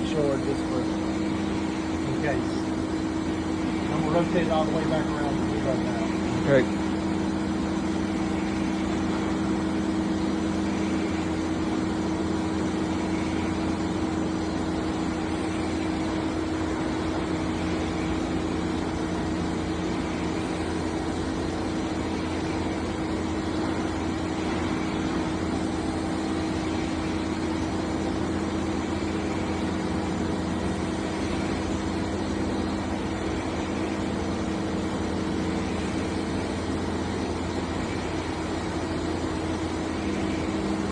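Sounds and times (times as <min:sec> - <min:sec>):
boring mill humming: 0:00.0 - 0:40.9.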